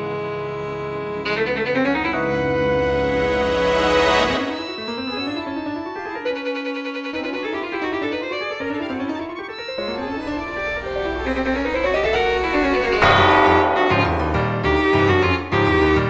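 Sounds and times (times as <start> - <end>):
instrumental orchestral score: 0.0 - 16.0.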